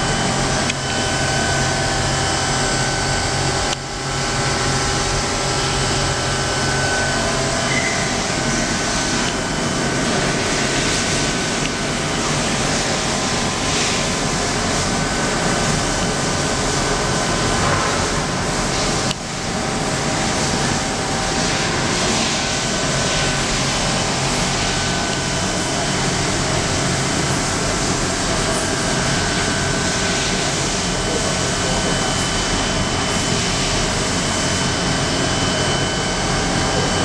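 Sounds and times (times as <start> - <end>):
machine spindle whirring: 0.0 - 37.0.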